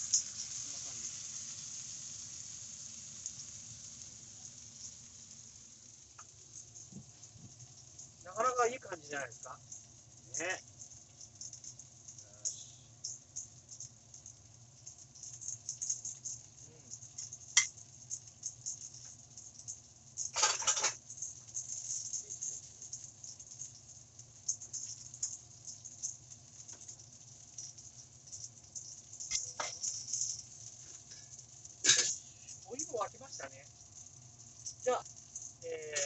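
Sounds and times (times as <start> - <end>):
meat sizzling in frying pan: 0.0 - 36.0.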